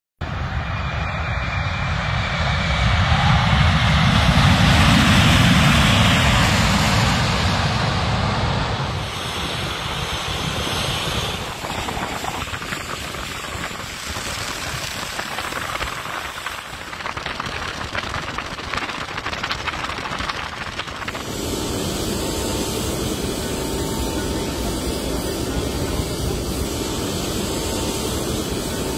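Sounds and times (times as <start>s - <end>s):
airliner taxiing engine noise: 0.2s - 28.9s
jet engines rumbling: 0.2s - 28.9s.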